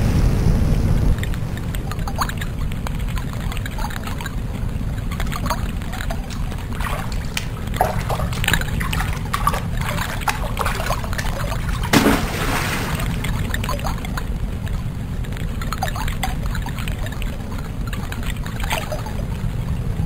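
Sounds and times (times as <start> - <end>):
trickling dripping water: 1.2 - 19.7.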